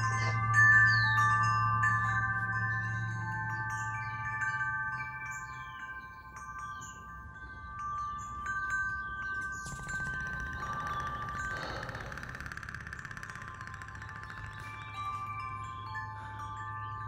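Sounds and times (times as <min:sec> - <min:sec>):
metal wind chime ringing: 0:00.0 - 0:12.1, 0:12.9 - 0:17.0.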